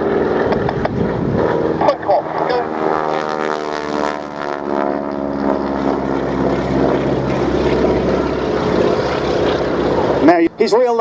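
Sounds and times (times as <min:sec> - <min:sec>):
biplane engine droning overhead: 0:00.0 - 0:11.0.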